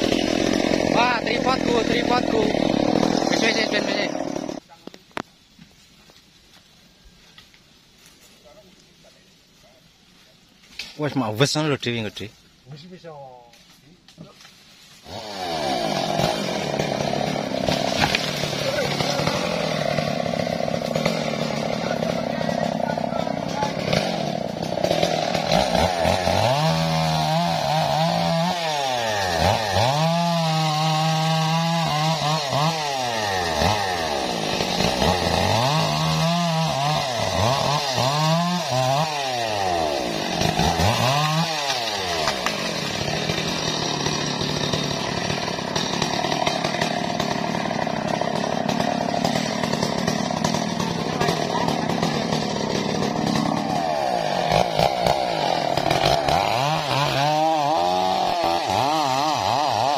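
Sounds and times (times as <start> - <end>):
chainsaw cutting wood: 0.0 - 5.0, 14.2 - 59.9.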